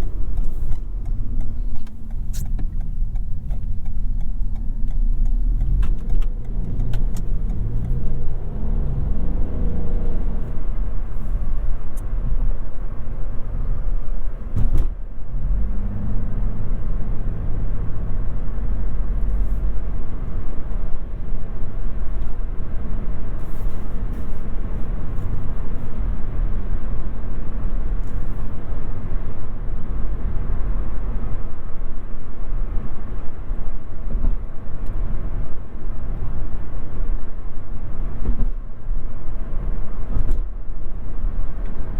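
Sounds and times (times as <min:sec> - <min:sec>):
car engine hum: 0:00.0 - 0:41.9
road and tyre rumble: 0:00.0 - 0:41.9.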